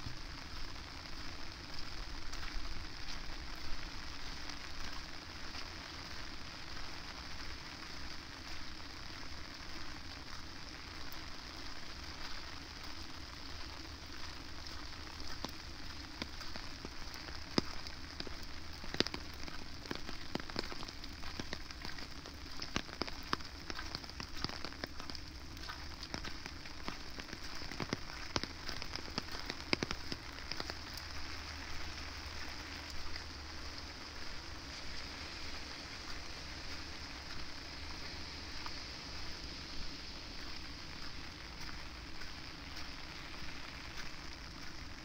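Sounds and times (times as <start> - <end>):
raindrops tapping close by: 0.0 - 45.0
steady rain falling: 0.0 - 45.0.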